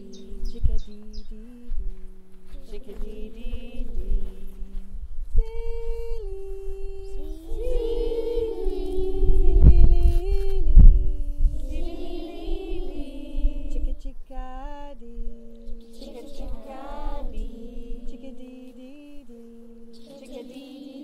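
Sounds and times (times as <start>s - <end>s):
low rumbling: 0.0s - 20.1s
woman singing wordlessly: 0.0s - 21.0s.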